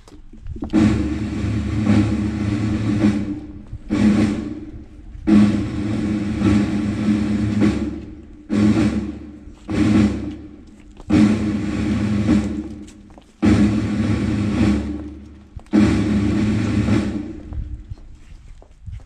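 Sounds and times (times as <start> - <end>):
ceremonial drum rolls: 0.6 - 18.2.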